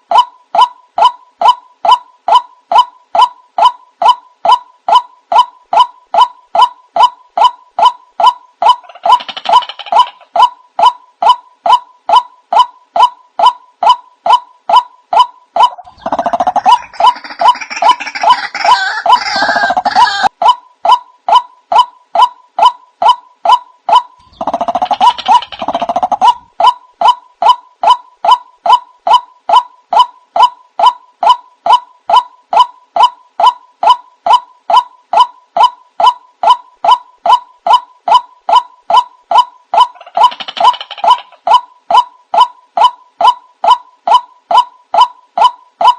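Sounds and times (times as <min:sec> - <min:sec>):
recorded bird call repeating: 0:00.0 - 0:45.9.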